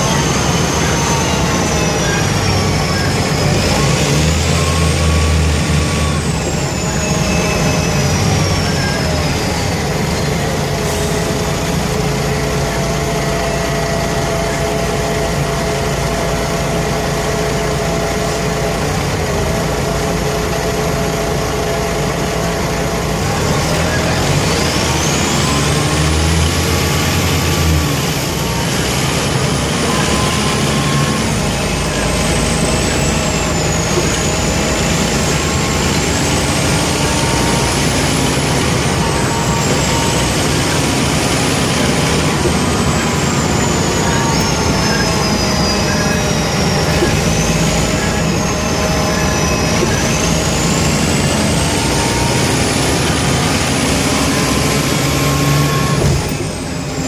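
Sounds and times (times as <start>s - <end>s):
diesel bus engine running: 0.0s - 57.0s
high turbo whine: 0.0s - 57.0s.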